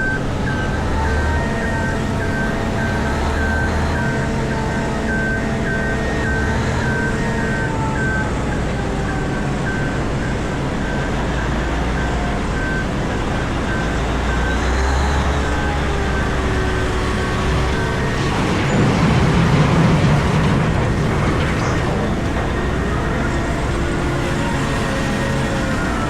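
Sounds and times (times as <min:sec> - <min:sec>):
excavator machine drone: 0:00.0 - 0:26.0.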